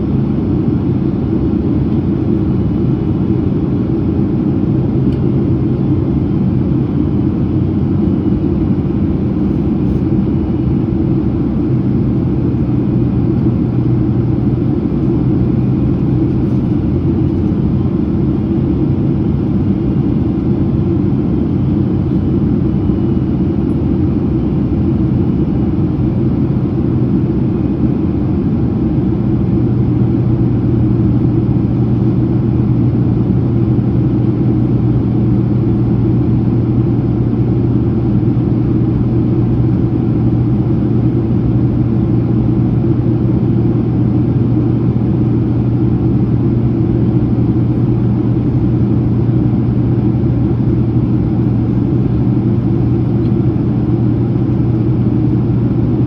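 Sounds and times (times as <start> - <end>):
aircraft cabin engine rumble: 0.0 - 56.0
low hum: 0.0 - 56.0.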